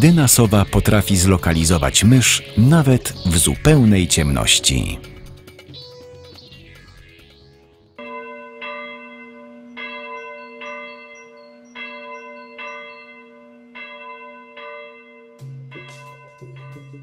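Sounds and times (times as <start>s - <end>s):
church bell tolling: 0.0s - 5.7s, 8.0s - 17.0s.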